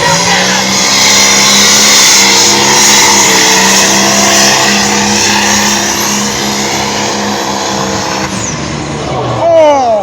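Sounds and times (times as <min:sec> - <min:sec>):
vehicle engine at full throttle: 0:00.0 - 0:10.0.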